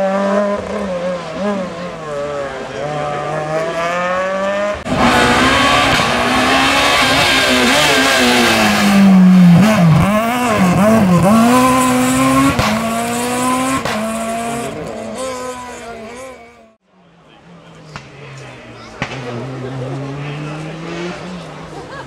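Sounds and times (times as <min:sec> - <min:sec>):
rally car engine revving: 0:00.0 - 0:16.8, 0:17.4 - 0:22.0.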